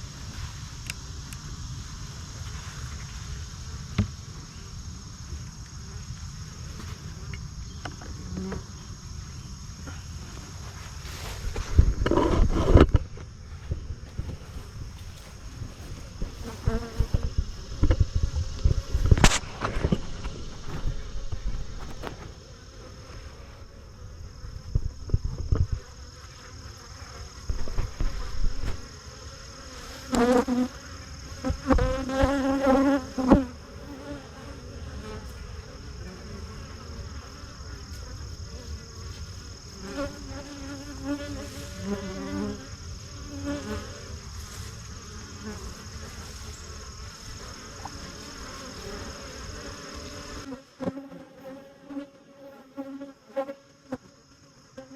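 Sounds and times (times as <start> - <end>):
honey bees buzzing: 5.7 - 54.9.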